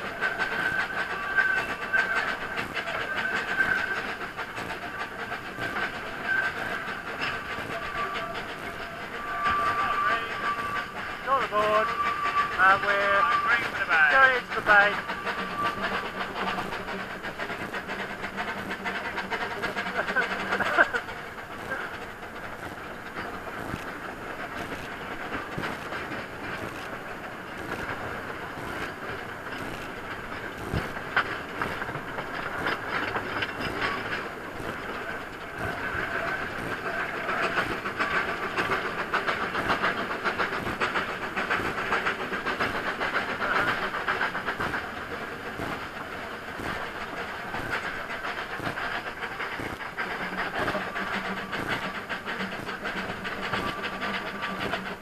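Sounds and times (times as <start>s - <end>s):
steam hiss: 0.0s - 55.0s
wheels clattering: 0.0s - 55.0s.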